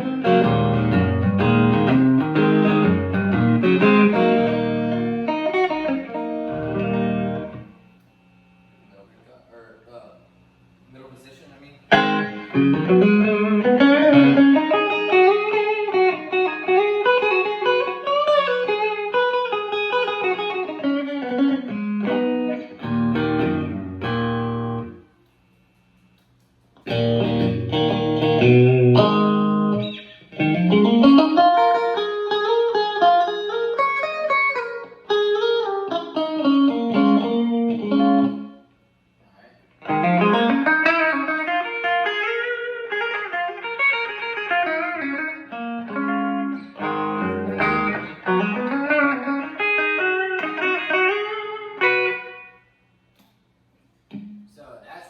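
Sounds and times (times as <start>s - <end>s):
loud electric guitar playing: 0.0s - 7.8s, 11.9s - 25.1s, 26.8s - 38.6s, 39.8s - 52.7s, 54.1s - 54.5s.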